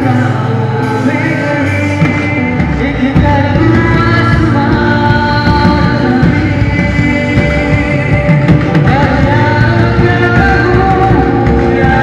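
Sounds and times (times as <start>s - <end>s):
instrumental accompaniment: 0.0s - 12.0s
man singing into a microphone: 0.0s - 12.0s.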